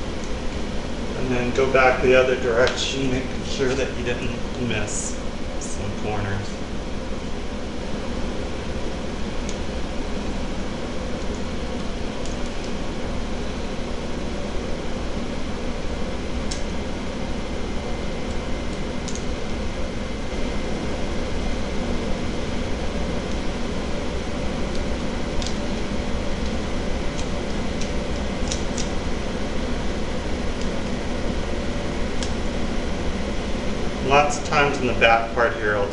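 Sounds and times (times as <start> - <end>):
steady mechanical hum: 0.0 - 35.9.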